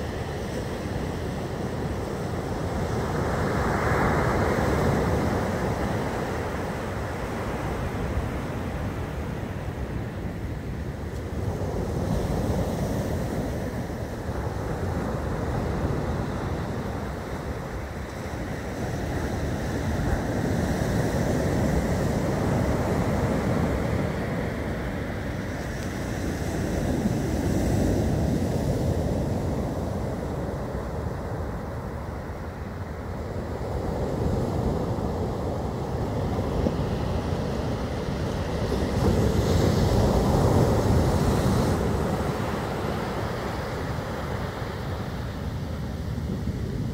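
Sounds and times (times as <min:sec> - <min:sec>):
storm surf breaking on shore: 0:00.0 - 0:46.9
wind blowing on microphone: 0:00.0 - 0:46.9.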